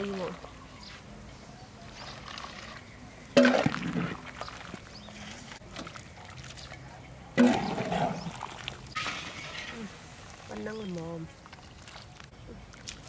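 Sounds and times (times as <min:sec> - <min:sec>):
broth sloshing and pouring: 0:02.0 - 0:13.0.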